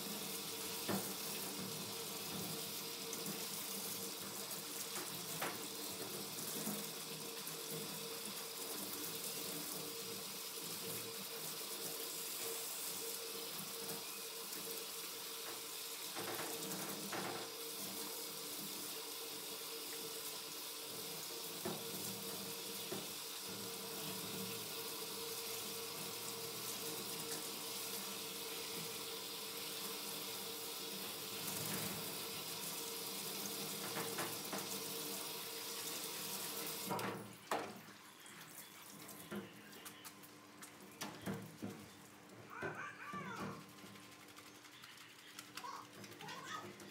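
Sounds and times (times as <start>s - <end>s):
hose water spraying into sink: 0.0s - 39.6s.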